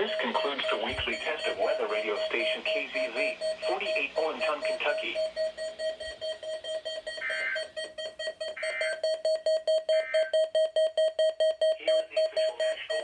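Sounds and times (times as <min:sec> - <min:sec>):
steady electronic beeping: 0:00.0 - 0:13.0.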